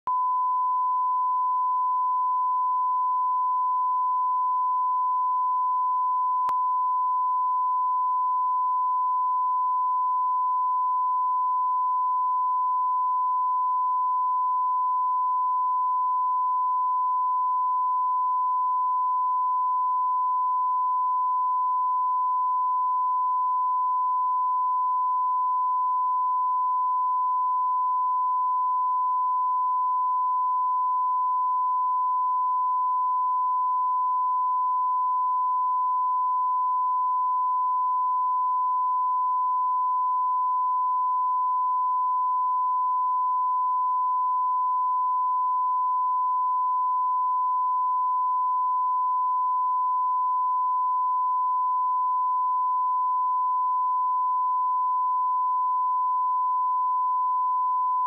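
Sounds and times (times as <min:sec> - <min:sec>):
sine-wave test tone: 0:00.0 - 0:58.0.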